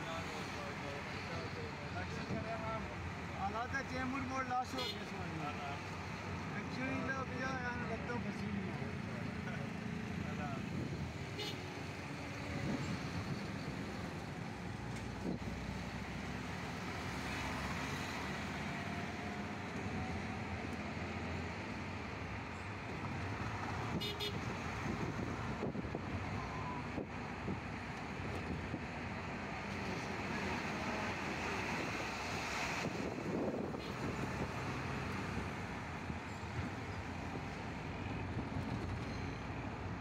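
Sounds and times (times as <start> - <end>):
highway traffic rushing: 0.0 - 40.0
trucks passing close by: 5.2 - 40.0.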